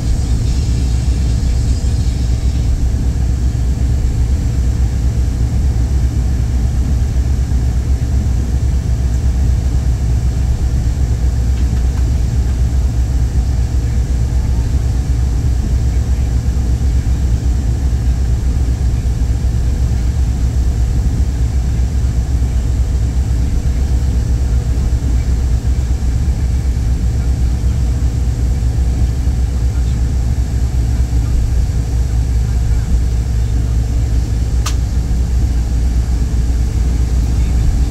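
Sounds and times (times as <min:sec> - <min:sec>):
vehicle cabin rumble: 0:00.0 - 0:37.9.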